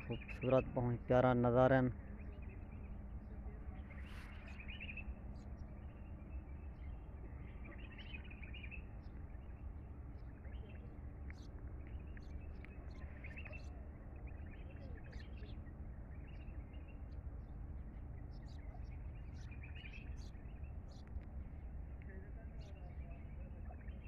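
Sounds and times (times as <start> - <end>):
birds chirping: 0.0 - 24.0
low background rumble: 0.0 - 24.0.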